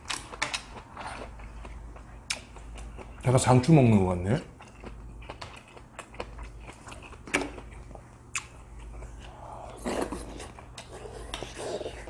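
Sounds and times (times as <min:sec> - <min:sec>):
chewing and wet mouth noises: 0:00.0 - 0:03.8, 0:04.4 - 0:12.0.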